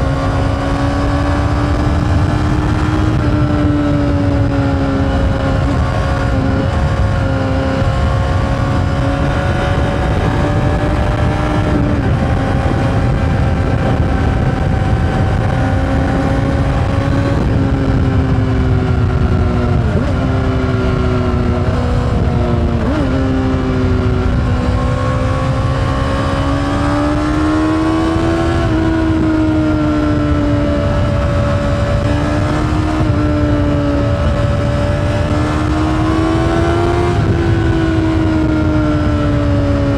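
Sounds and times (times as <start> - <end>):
motorcycle engine at high revs: 0.0 - 39.9
wind and road rush: 0.0 - 39.9.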